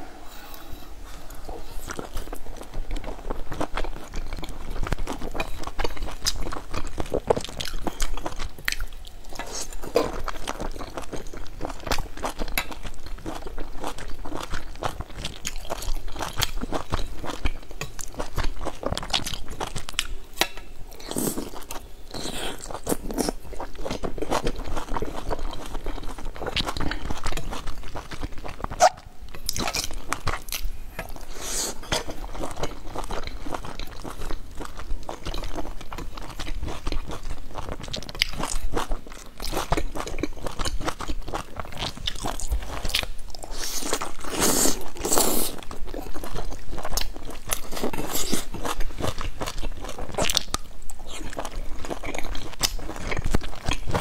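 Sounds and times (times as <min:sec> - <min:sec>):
person chewing wetly: 0:01.8 - 0:54.0.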